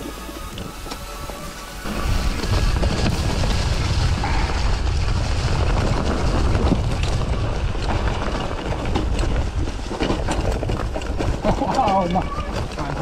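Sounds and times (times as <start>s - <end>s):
bike rattling over bumps: 0.0s - 13.0s
wind buffeting microphone: 0.0s - 13.0s.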